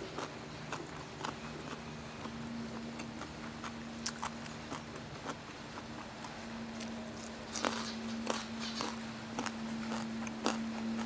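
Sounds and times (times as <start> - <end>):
crunchy chewing: 0.0 - 11.0
faint steady hum: 0.0 - 11.0.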